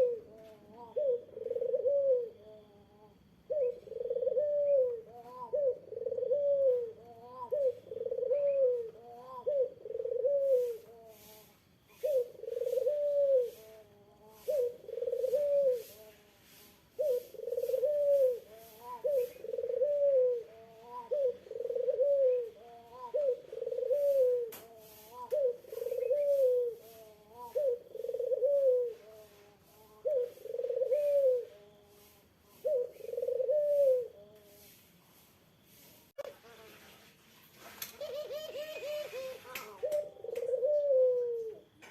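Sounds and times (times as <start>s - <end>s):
dove cooing: 0.0s - 34.8s, 37.9s - 41.9s.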